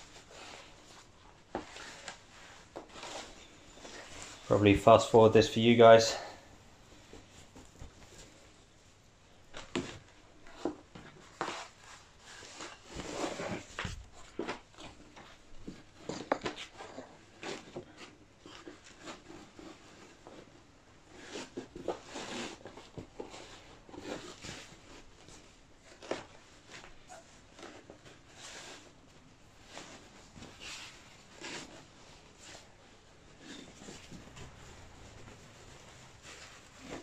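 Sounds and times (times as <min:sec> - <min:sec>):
jersey fabric rustling: 0:00.0 - 0:37.0.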